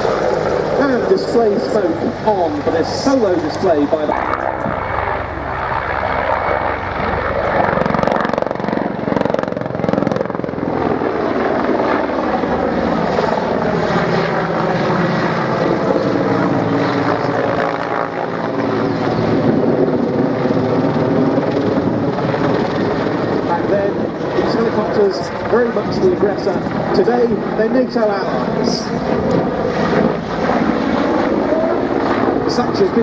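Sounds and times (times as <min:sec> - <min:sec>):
helicopter engines and rotor: 0:00.0 - 0:33.0.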